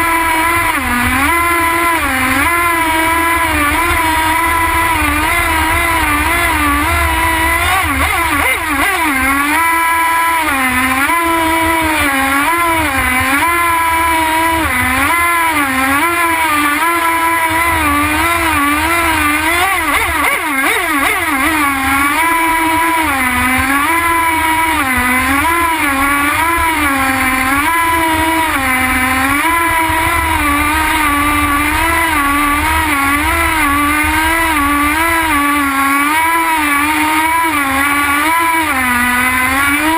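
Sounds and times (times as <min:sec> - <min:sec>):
model boat engine whining: 0:00.0 - 0:39.9.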